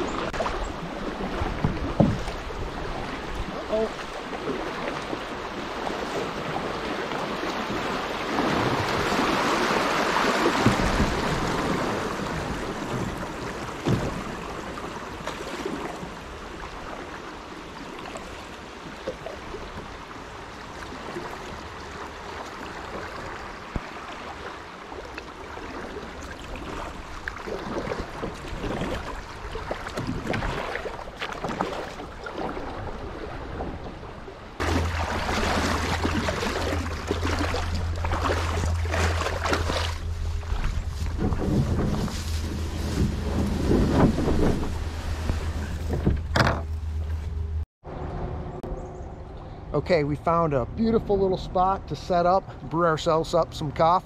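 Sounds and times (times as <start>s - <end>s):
river water rushing: 0.0s - 47.6s.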